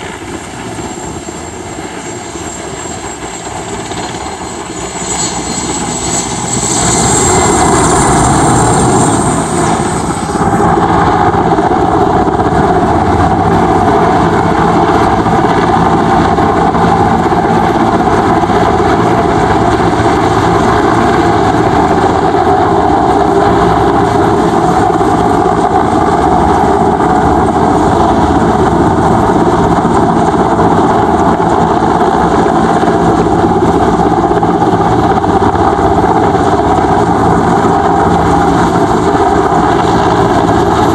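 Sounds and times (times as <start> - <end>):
helicopter rotor and turbines: 0.0 - 40.9
high turbine whine: 0.0 - 40.9.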